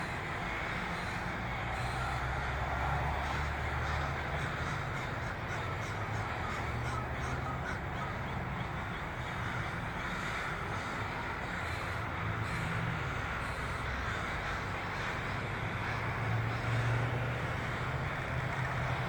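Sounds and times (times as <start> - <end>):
flock of crows cawing: 0.0 - 19.0.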